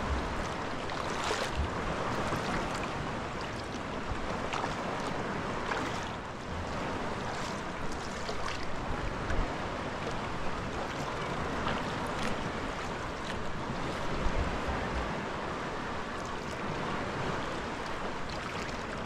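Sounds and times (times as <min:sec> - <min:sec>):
paddle blades dipping into water: 0:00.0 - 0:15.2, 0:16.1 - 0:16.7, 0:17.7 - 0:19.0
water washing along hull: 0:00.0 - 0:19.0
wind on microphone: 0:00.0 - 0:19.0.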